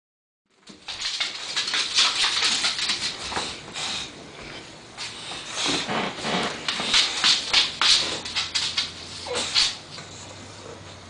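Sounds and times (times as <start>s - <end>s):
dogs scuffling: 0.6s - 10.3s
dogs huffing breaths: 1.2s - 10.9s.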